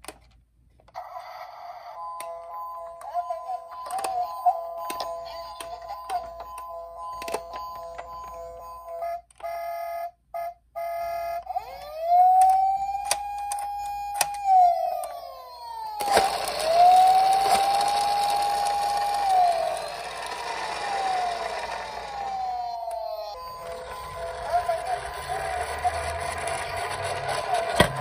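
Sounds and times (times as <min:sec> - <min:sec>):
toy electronic siren: 0:01.0 - 0:28.0.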